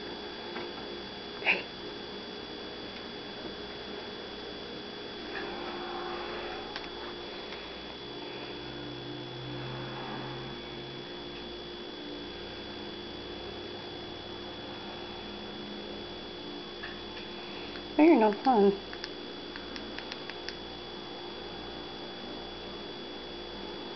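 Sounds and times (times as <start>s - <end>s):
electrical hum: 0.0s - 23.9s
thin high whine: 0.0s - 23.9s.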